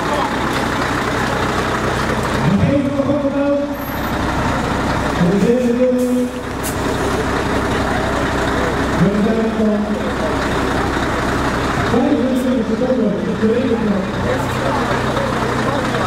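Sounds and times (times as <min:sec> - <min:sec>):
crowd din: 0:00.0 - 0:16.0.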